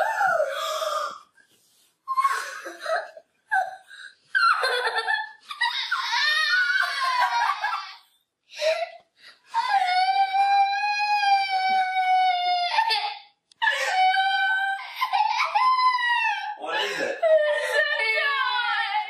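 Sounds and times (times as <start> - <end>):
girl crying with joy: 2.1 - 8.0, 9.6 - 19.0.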